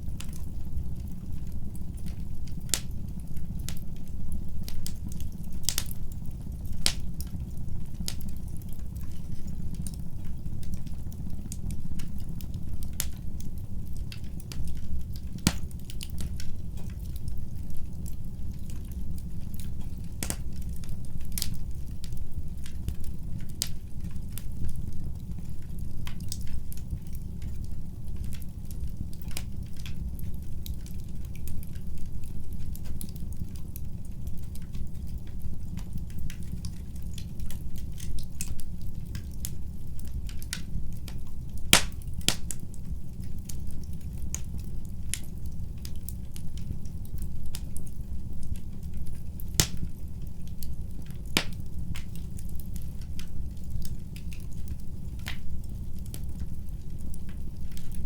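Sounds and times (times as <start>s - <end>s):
fire crackling and popping: 0.0s - 58.0s
fire flames rumbling: 0.0s - 58.0s.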